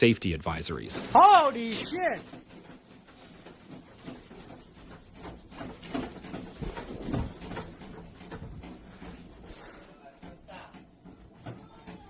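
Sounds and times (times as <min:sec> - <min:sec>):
things rattling and knocking: 0:00.0 - 0:12.0.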